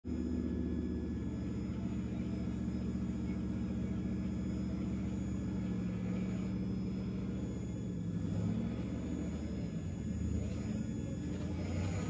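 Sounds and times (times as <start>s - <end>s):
electric motor whirring: 0.2s - 12.0s.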